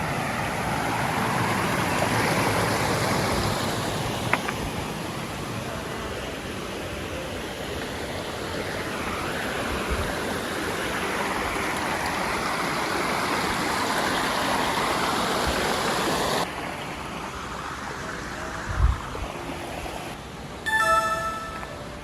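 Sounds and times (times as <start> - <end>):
water rushing in a stream: 0.0 - 21.5.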